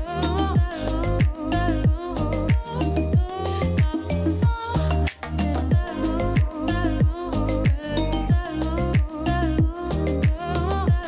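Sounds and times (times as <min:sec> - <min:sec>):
held bass line: 0:00.0 - 0:11.0
steady drum beat: 0:00.0 - 0:11.0
melody: 0:00.1 - 0:10.2.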